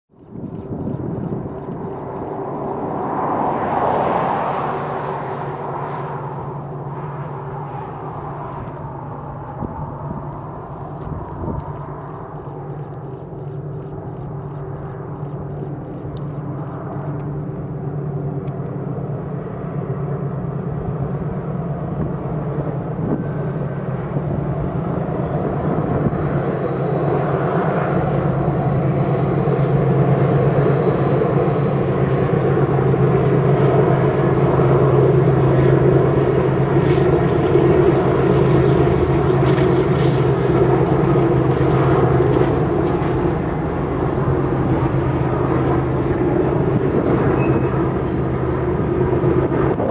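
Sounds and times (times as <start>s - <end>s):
diesel locomotive engine drone: 0.1s - 49.9s.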